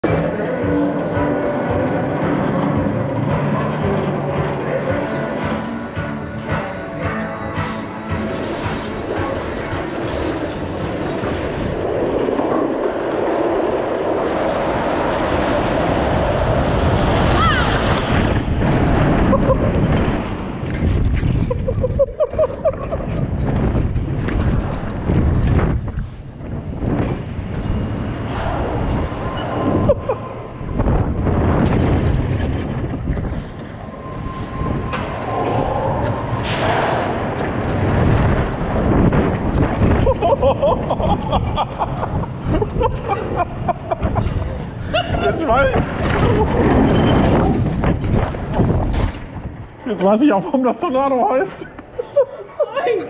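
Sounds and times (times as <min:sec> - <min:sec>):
roller coaster rattling on track: 0:00.0 - 0:53.0.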